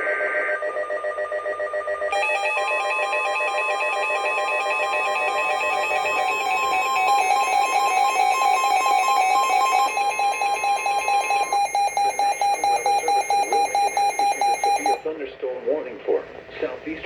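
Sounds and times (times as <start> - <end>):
rapid electronic alarm beeps: 0.0 - 15.0
steady warning alarm tone: 0.0 - 15.1.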